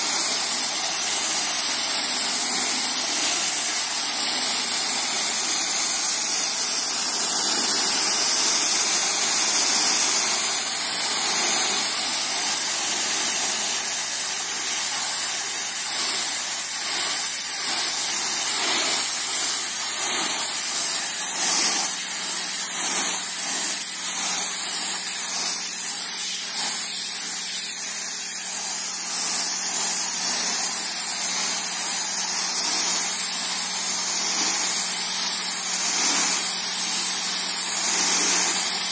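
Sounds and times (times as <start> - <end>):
pressure washer spraying concrete: 0.0 - 38.9.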